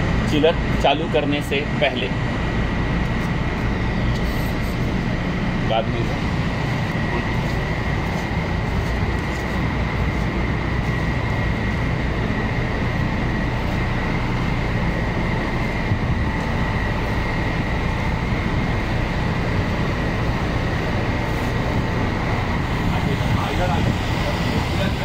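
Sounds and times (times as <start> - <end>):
machinery low rumble: 0.0 - 25.0
thin high whine: 0.0 - 25.0.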